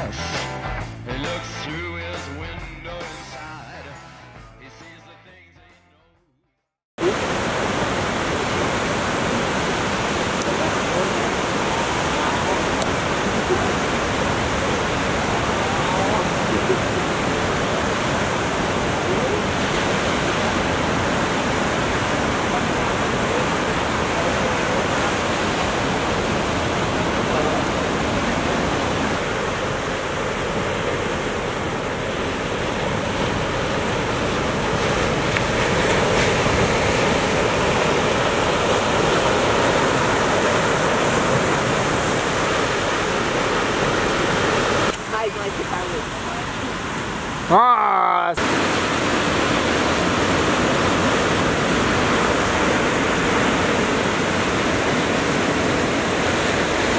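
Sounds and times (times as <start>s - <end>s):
ocean waves breaking: 0.0s - 5.0s, 7.0s - 56.9s.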